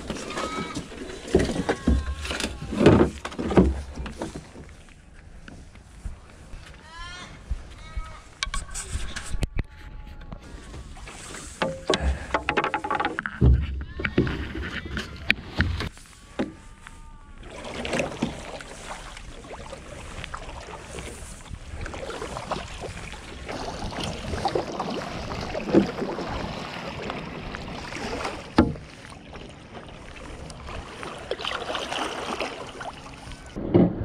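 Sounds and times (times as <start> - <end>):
water rushing along canoe hull: 0.0 - 5.4, 10.4 - 34.0
paddle strokes: 0.0 - 9.7, 10.3 - 34.0.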